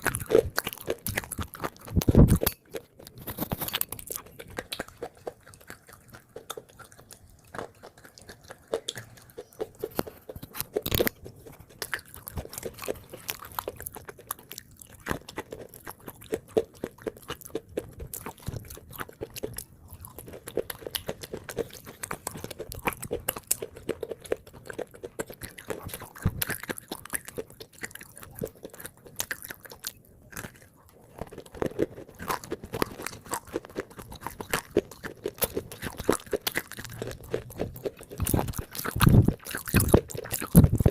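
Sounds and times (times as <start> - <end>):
chewing and crunching clay: 0.0 - 40.9.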